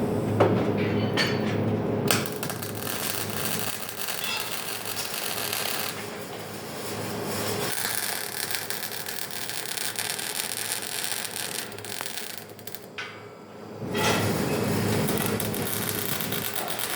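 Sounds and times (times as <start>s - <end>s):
welding arc crackling hiss: 2.1s - 13.0s, 14.0s - 16.9s.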